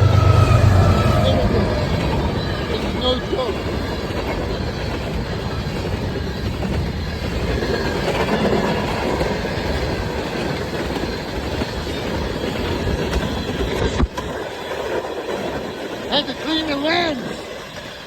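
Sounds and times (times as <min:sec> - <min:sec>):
freight train passing: 0:00.0 - 0:18.0.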